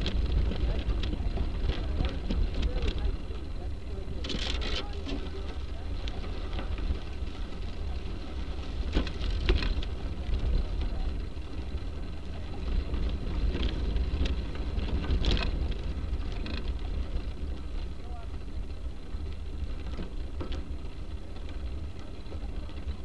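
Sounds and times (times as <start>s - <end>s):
bicycle rolling on gravel: 0.0s - 23.0s
bike rattling over bumps: 0.0s - 23.0s
wind buffeting microphone: 0.0s - 23.0s.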